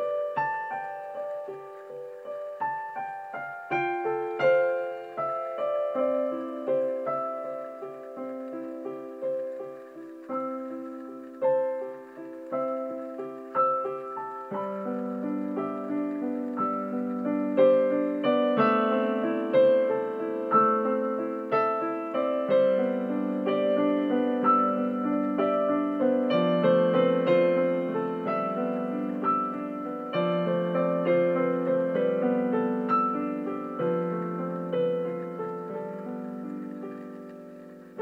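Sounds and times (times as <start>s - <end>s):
slow gentle solo piano: 0.0s - 38.0s.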